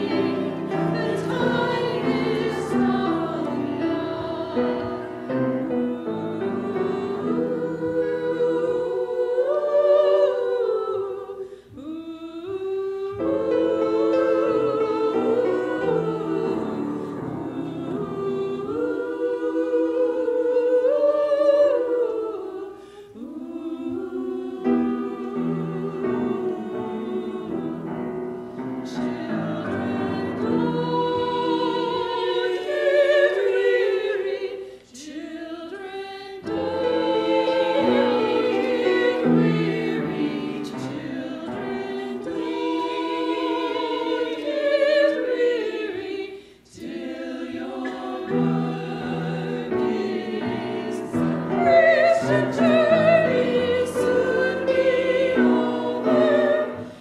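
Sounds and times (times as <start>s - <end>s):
women's choir singing: 0.0s - 57.0s.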